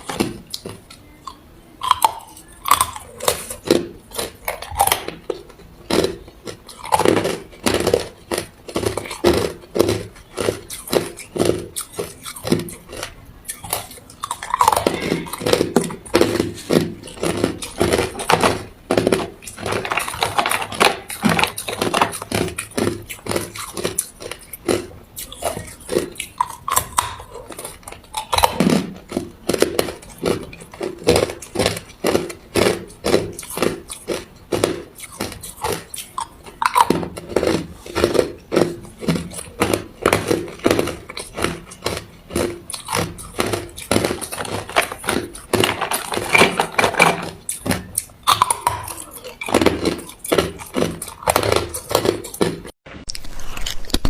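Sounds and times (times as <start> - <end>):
ice crunching being chewed: 0.0 - 54.0.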